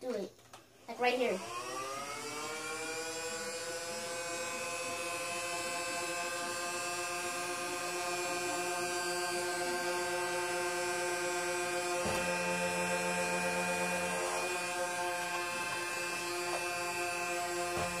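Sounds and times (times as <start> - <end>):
flywheel motors whining: 1.3 - 18.0.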